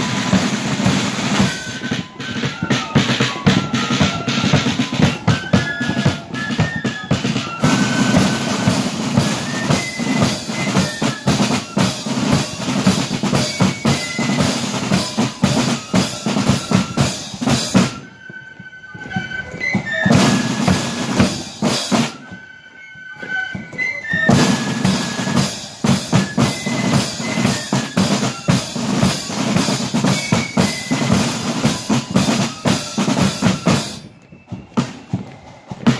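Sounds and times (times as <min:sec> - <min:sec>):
snare and bass drum beats: 0:00.0 - 0:18.2, 0:19.1 - 0:22.4, 0:23.3 - 0:35.9
high flute melody: 0:00.0 - 0:35.9.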